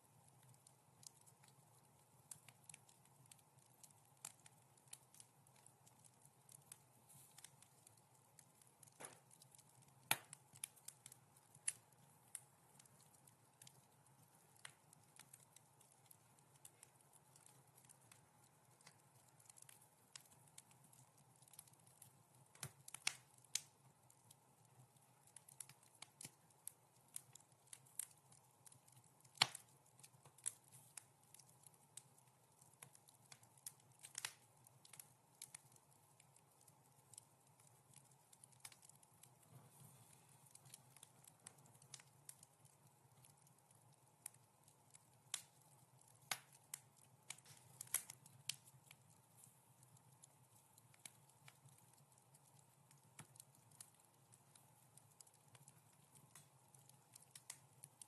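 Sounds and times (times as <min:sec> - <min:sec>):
wood fire popping and snapping: 0:00.0 - 0:58.0.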